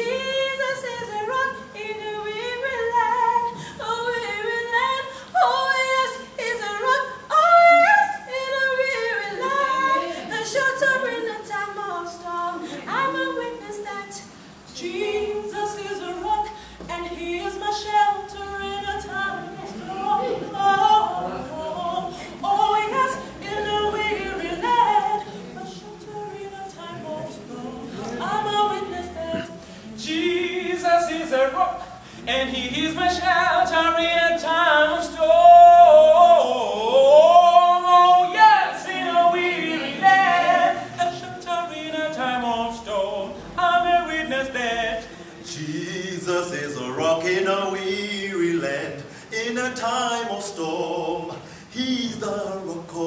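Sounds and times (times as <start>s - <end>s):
vocal group singing in harmony: 0.0s - 53.0s.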